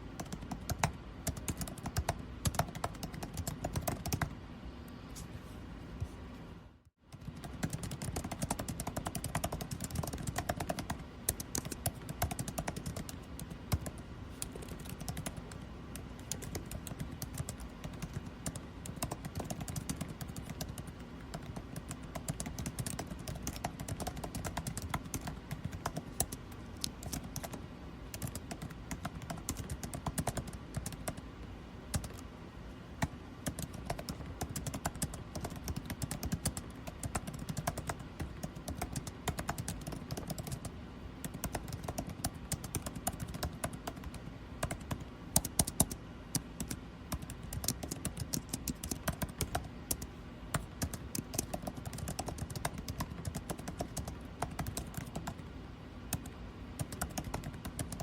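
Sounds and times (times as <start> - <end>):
air conditioning hum: 0.0 - 58.0
typing on computer keyboard: 0.1 - 4.3, 7.1 - 31.3, 31.9 - 32.2, 33.0 - 55.5, 56.1 - 58.0.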